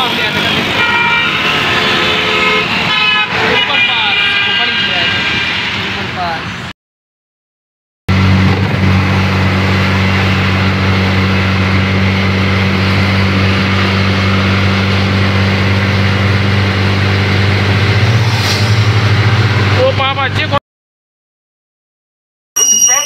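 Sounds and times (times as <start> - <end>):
vehicle engine humming: 0.0 - 6.7, 8.1 - 20.6
road and wind noise: 0.0 - 6.8, 8.1 - 20.6.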